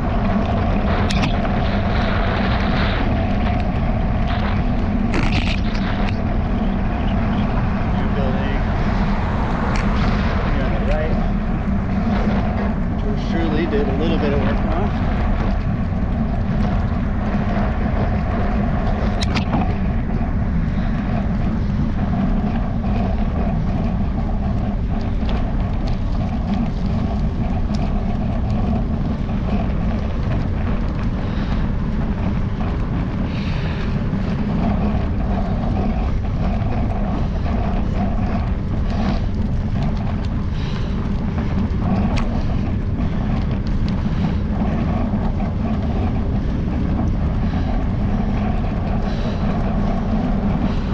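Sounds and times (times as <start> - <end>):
bicycle road noise: 0.0 - 50.9.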